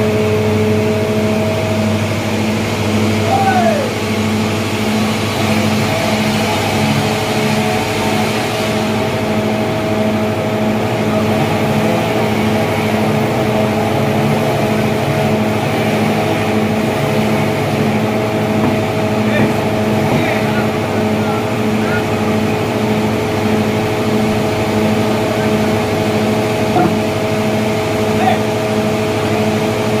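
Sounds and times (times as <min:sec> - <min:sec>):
sawmill engine humming: 0:00.0 - 0:30.0.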